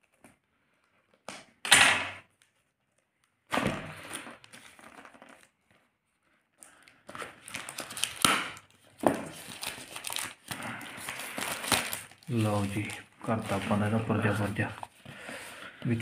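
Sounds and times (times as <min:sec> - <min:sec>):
plastic wrapping crinkling and tearing: 0:02.2 - 0:16.0.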